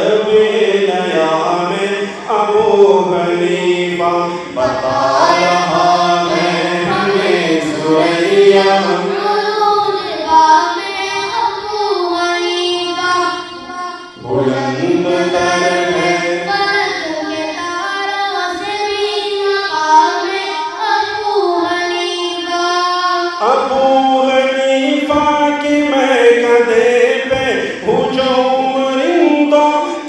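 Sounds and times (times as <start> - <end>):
devotional singing: 0.0 - 30.0.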